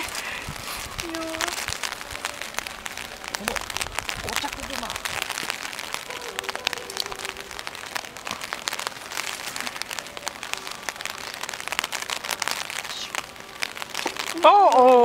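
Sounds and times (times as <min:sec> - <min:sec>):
rain falling: 0:00.0 - 0:15.0
sharp raindrop hits: 0:00.0 - 0:15.0.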